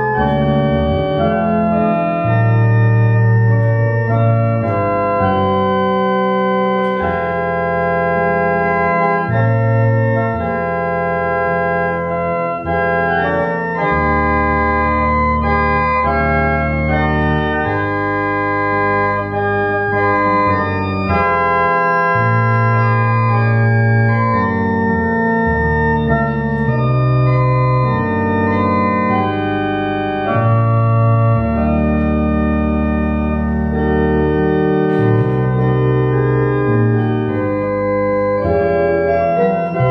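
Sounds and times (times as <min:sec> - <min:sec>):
church organ playing hymn: 0:00.0 - 0:39.9.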